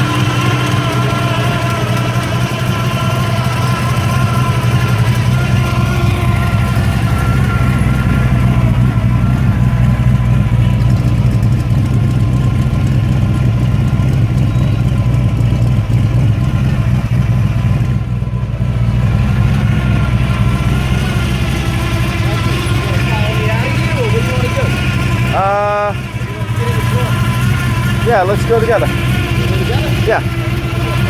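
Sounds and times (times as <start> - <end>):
vee-eight engine idling: 0.0 - 31.0.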